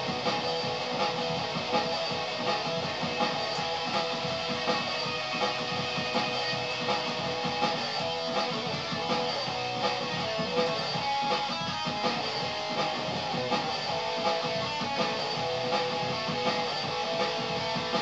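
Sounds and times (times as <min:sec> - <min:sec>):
electric guitar playing: 0:00.0 - 0:18.0.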